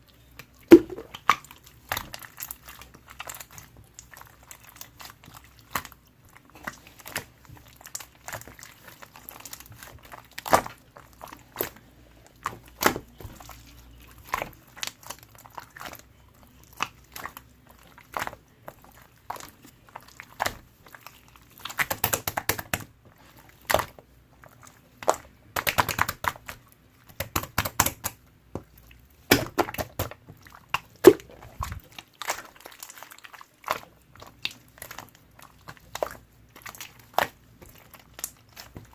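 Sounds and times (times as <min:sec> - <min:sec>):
slime squished by hand: 0:00.2 - 0:38.9.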